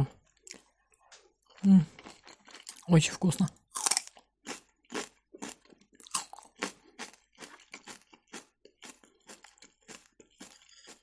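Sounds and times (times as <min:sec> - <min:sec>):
person crunching celery: 0:00.2 - 0:11.0.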